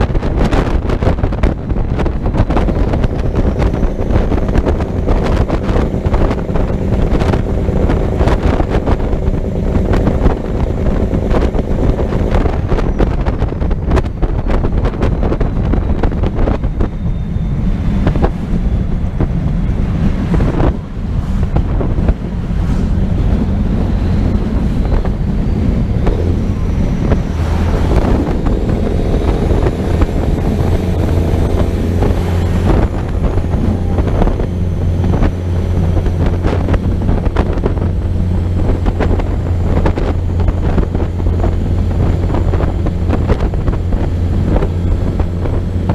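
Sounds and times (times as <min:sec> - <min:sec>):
vehicle engine and road noise: 0:00.0 - 0:45.9
wind buffeting microphone: 0:00.0 - 0:45.9.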